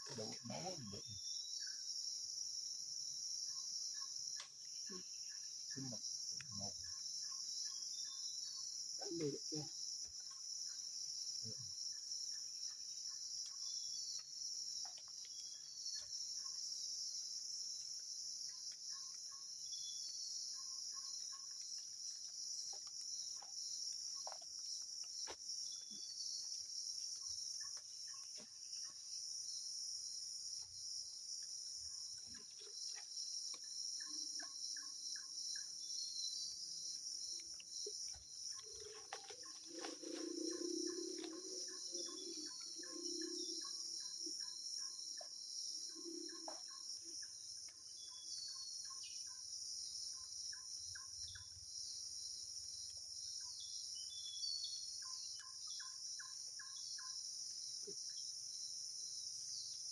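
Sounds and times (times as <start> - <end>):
crickets and night insects chorus: 0.0 - 59.9.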